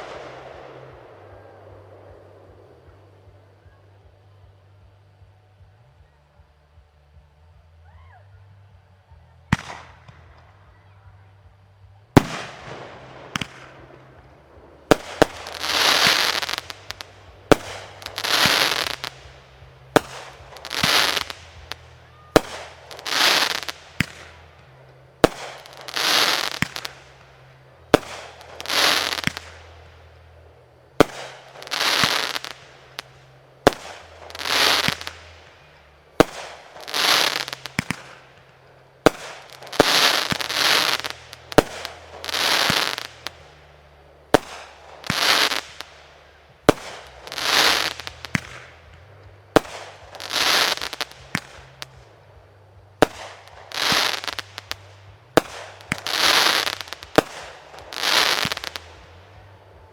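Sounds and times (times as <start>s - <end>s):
fireworks bangs: 0.0s - 5.3s, 9.5s - 11.2s, 11.8s - 59.9s
fireworks hissing crackle: 0.0s - 7.8s, 8.6s - 59.9s.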